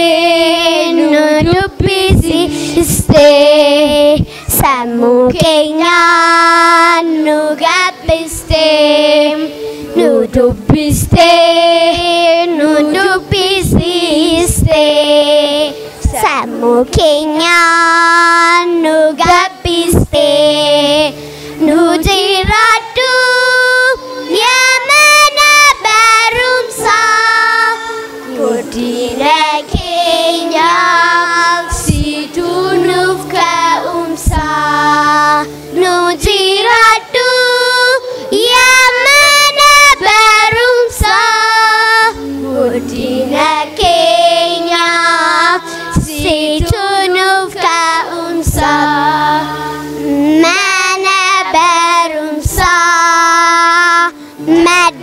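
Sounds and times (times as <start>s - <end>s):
children singing into a microphone: 0.0s - 55.0s
instrumental backing with low bass: 0.0s - 55.0s.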